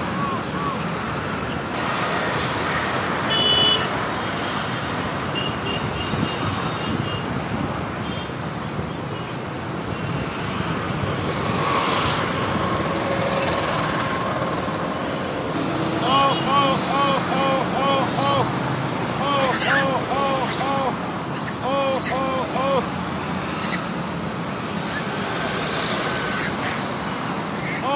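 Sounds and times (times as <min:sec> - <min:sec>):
passing traffic: 0:00.0 - 0:27.9.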